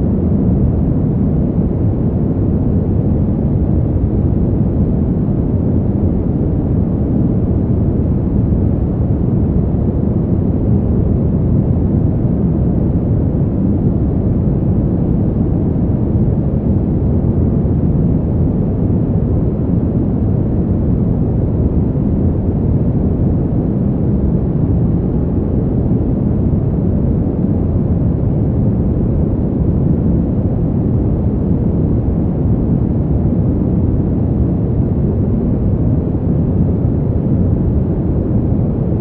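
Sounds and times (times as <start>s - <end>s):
deep wind rushing: 0.0s - 39.0s.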